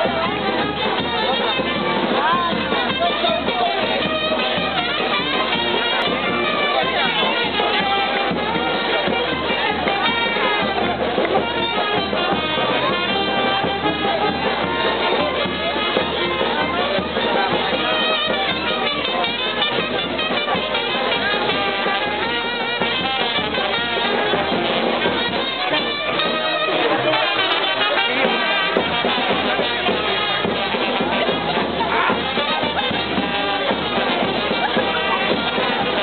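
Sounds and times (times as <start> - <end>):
brass band playing: 0.0 - 36.0.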